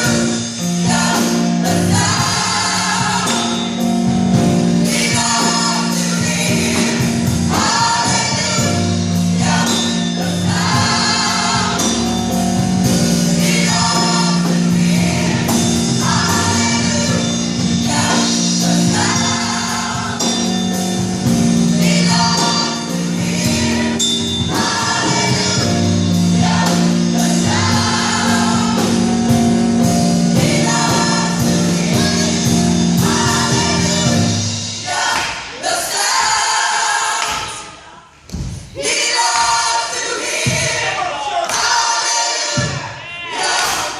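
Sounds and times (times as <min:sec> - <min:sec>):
instrumental accompaniment: 0:00.0 - 0:37.2
gospel choir singing: 0:00.0 - 0:43.9.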